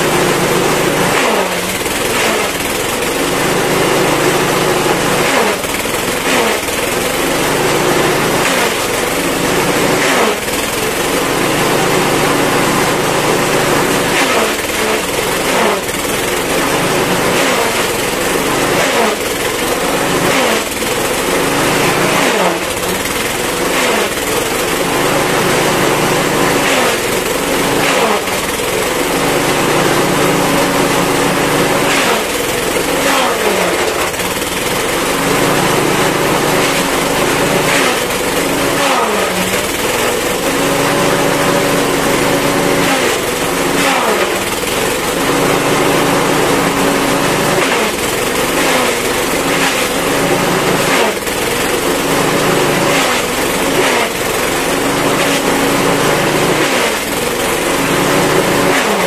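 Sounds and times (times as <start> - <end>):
blades chopping grass: 0.0 - 59.0.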